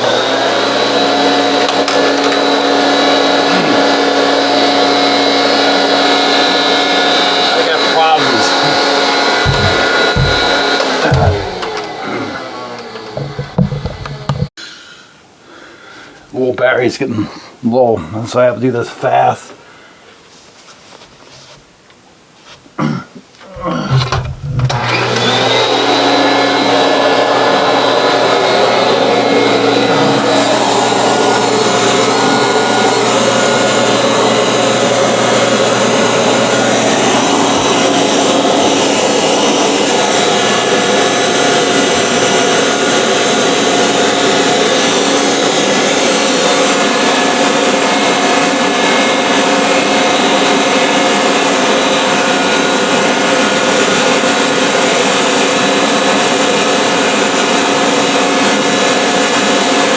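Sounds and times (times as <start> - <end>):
vacuum cleaner motor whining: 0.0 - 14.6, 23.9 - 59.9.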